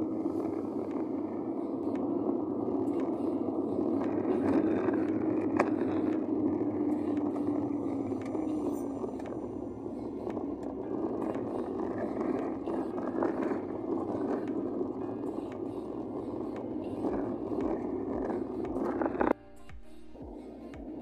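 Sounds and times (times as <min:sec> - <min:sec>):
car interior road and engine noise: 0:00.0 - 0:21.0
faint ticks: 0:00.4 - 0:21.0.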